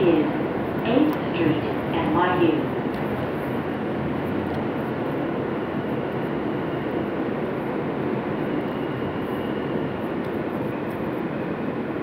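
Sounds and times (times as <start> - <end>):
subway car wheels rumbling on rail: 0.0 - 12.0.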